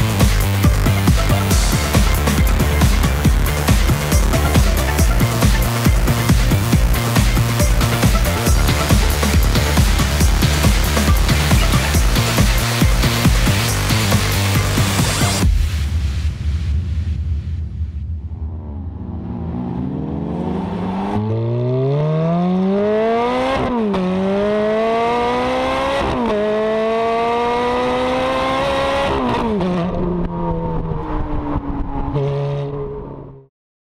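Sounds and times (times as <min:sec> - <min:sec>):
sports car engine accelerating: 0:00.0 - 0:15.4, 0:18.2 - 0:33.5.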